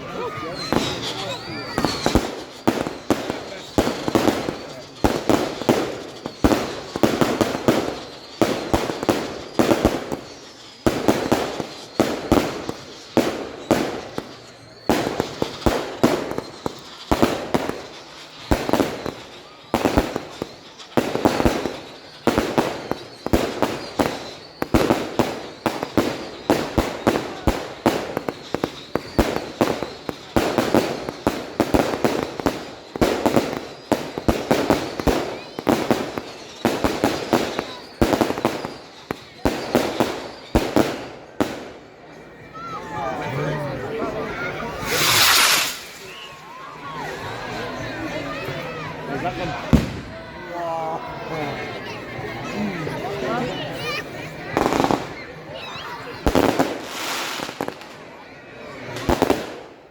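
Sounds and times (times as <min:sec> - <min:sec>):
fireworks banging: 0:00.0 - 0:42.2, 0:44.0 - 0:50.5, 0:51.6 - 0:59.9.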